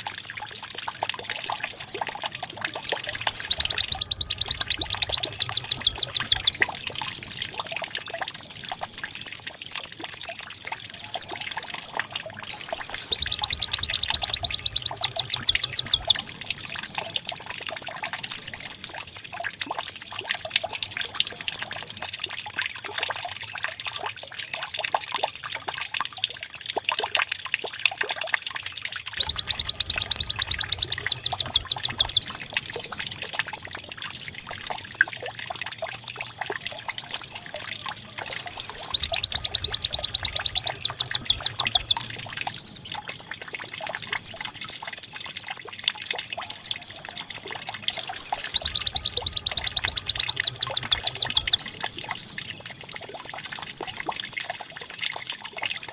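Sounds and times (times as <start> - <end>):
recorded bird song trills: 0.0 - 21.7, 29.2 - 55.9.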